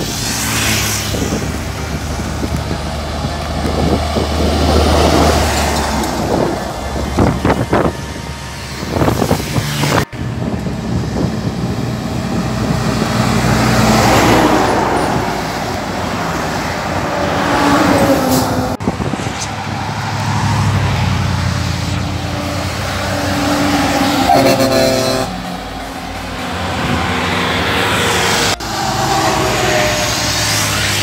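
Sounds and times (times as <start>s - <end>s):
diesel trucks passing: 0.0s - 31.0s.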